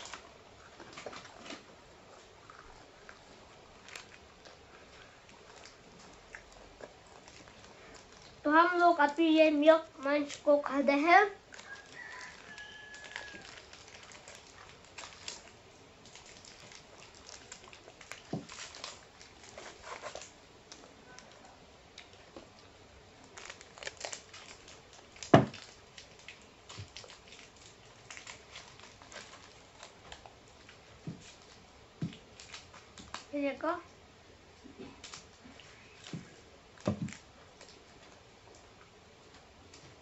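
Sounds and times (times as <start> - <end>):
plastic wrappers crinkling: 0.0 - 33.6, 34.7 - 40.0.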